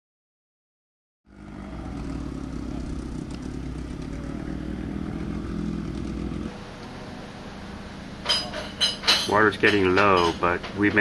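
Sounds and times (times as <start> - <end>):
engine humming: 1.3 - 11.0.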